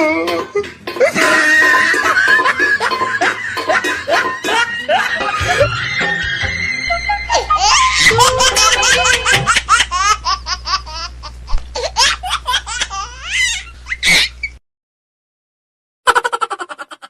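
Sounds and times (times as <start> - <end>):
high-pitched laughter: 1.0 - 11.2, 11.8 - 14.5, 16.1 - 17.0.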